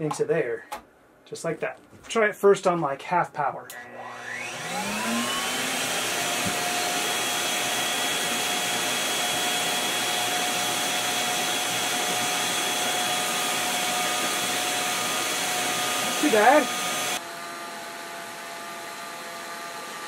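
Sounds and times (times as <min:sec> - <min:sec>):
vacuum dust collector motor whine: 0:03.7 - 0:20.0.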